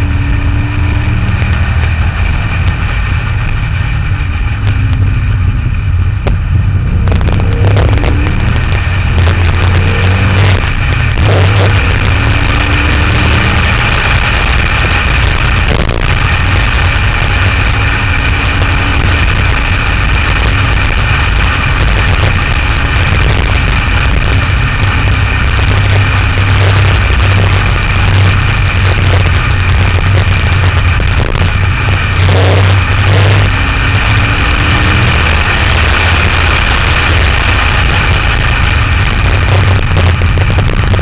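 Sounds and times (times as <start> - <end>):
car engine drone: 0.0 - 41.0
wind rush on microphone: 0.0 - 41.0.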